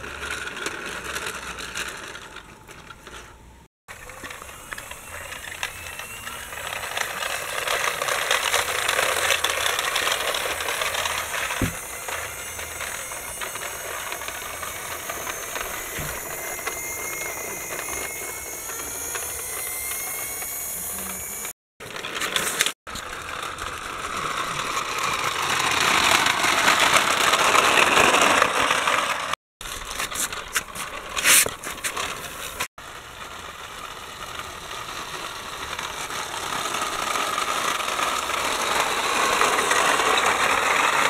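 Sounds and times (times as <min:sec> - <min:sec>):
plastic wheels rattling on concrete: 0:00.0 - 0:41.0.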